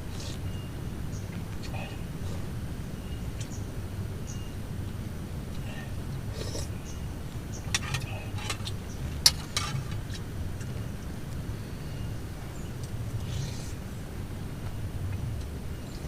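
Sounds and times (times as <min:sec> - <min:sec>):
rain and wind on tent: 0:00.0 - 0:16.0.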